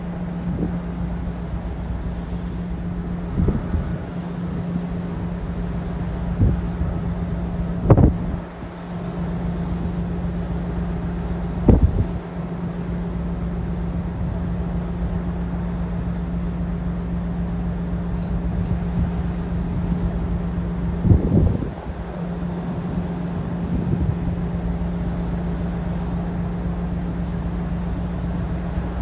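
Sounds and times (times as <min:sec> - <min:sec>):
diesel locomotive engine humming: 0:00.0 - 0:29.0.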